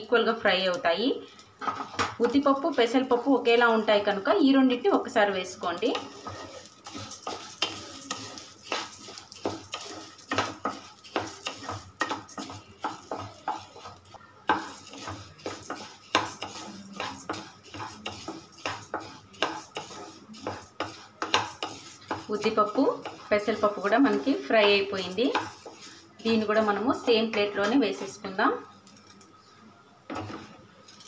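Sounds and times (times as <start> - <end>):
wooden spatula scraping a pan: 0.0 - 29.1, 30.1 - 31.0.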